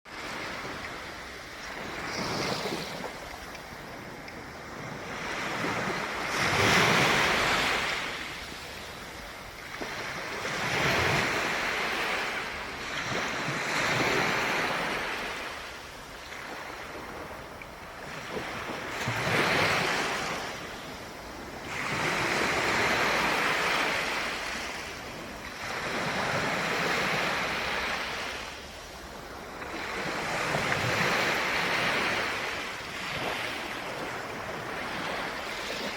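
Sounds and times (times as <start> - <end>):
ocean waves breaking on shore: 0.1 - 35.9.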